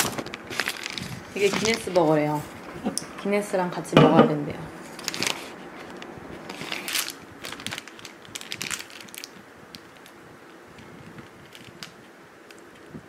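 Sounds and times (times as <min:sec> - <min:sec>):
paper wrapper crinkling: 0:00.0 - 0:02.5, 0:04.8 - 0:12.9.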